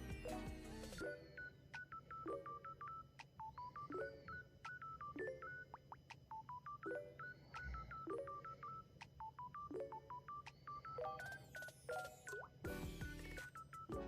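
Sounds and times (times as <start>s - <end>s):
looping beeping electronic music: 0.0s - 14.0s.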